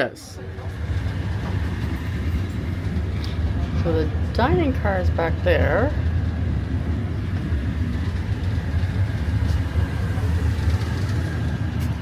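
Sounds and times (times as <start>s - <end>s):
train carriage low rumble: 0.0s - 12.0s.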